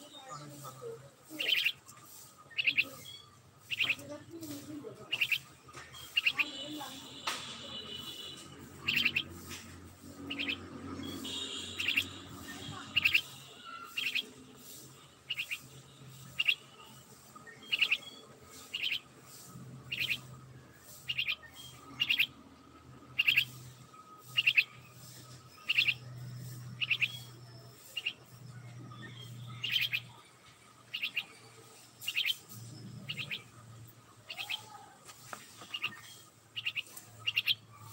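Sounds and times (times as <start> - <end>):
myna chirping: 0.0 - 37.9.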